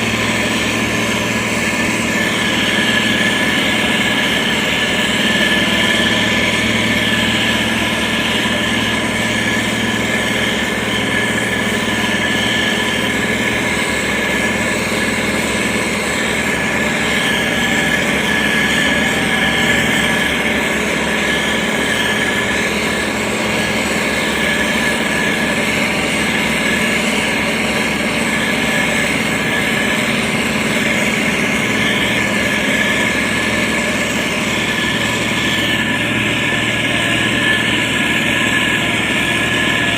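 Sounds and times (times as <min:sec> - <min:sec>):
machinery engine drone: 0:00.0 - 0:39.9
steady high whine: 0:00.0 - 0:39.9.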